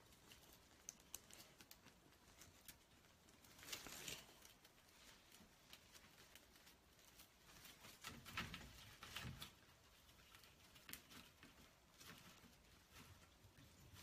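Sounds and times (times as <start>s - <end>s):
ribbon rustling: 0.0s - 14.0s.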